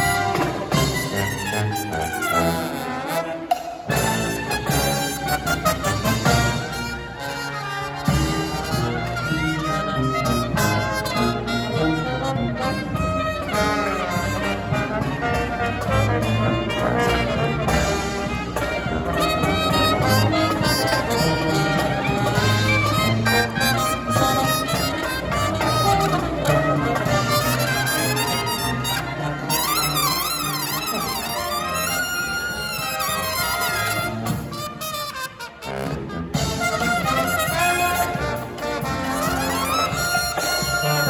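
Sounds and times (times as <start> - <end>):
marching brass band playing: 0.0 - 41.0.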